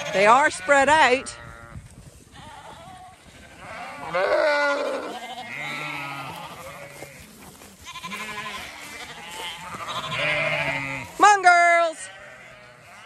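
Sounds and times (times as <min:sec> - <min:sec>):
sheep bleating: 0:00.0 - 0:13.0.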